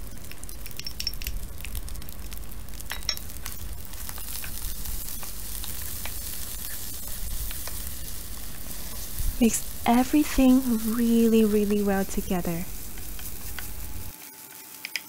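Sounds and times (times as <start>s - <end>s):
egg and rice sizzling in a pan: 0.0s - 15.0s.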